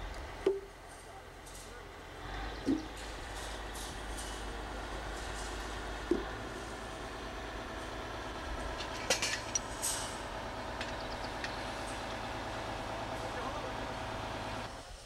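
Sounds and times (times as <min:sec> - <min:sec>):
crane engine humming: 0:00.0 - 0:15.0.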